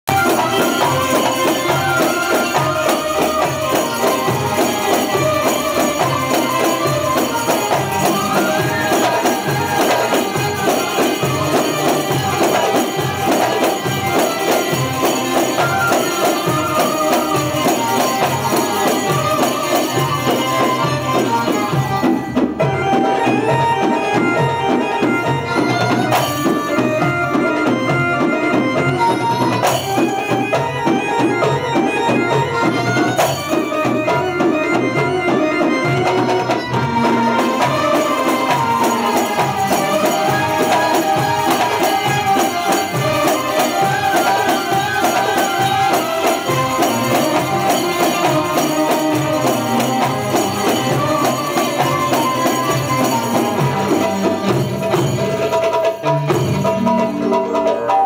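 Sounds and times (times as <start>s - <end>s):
oriental dance band playing: 0.0s - 58.0s
jingling percussion: 0.1s - 58.0s.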